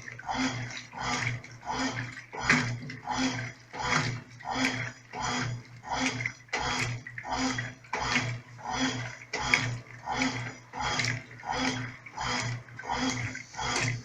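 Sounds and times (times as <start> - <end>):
washing machine agitator swishing: 0.0 - 14.0
washing machine motor humming: 0.0 - 14.0.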